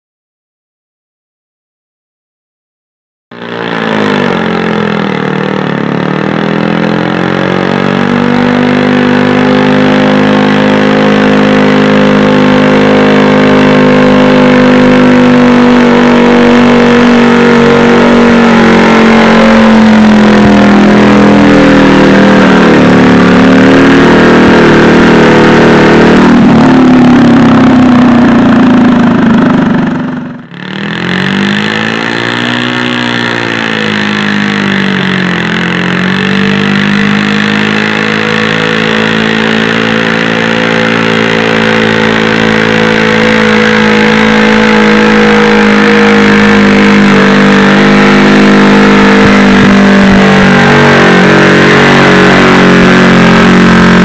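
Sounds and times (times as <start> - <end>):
another engine revving: 3.3 - 54.0
garden tractor engine at full throttle: 3.3 - 54.0.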